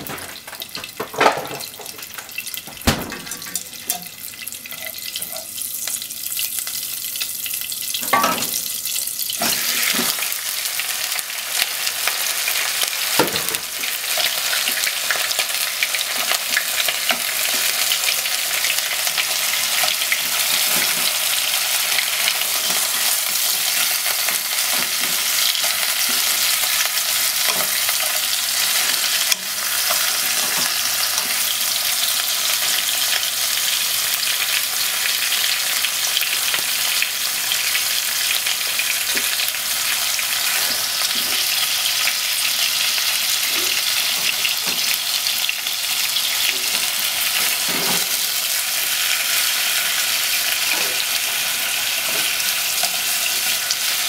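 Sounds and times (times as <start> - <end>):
chicken sizzling in butter: 3.7 - 54.0.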